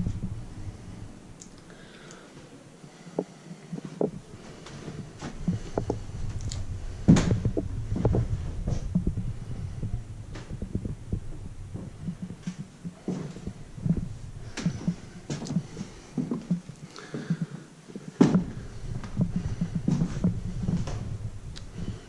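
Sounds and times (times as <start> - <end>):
footsteps: 0.0 - 0.9, 3.2 - 22.0.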